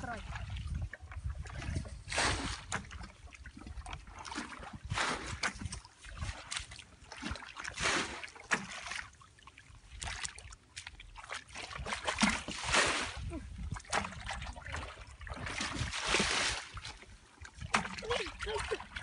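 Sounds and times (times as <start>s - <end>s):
muddy water sloshing and splashing: 0.0s - 19.0s.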